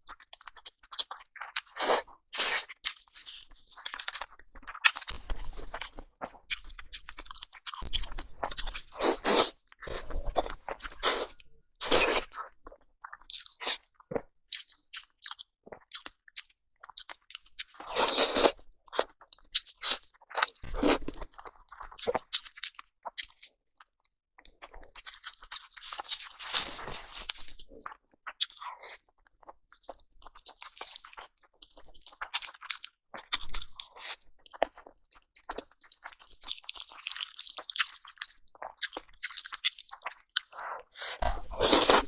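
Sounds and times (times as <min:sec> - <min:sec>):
person chewing crunchy food: 0:00.1 - 0:42.0.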